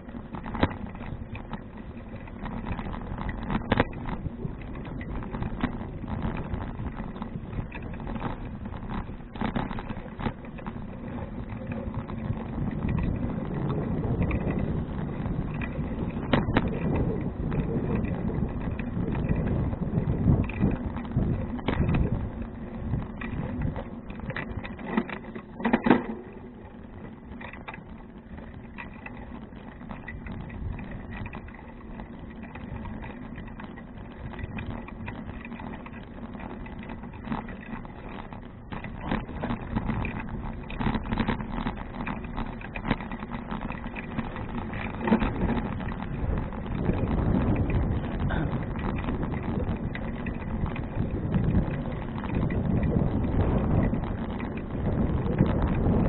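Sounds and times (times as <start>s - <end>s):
bicycle knocks and rattles: 0.0s - 56.0s
tyre and road rumble: 0.0s - 56.0s
wind on microphone: 0.0s - 56.0s.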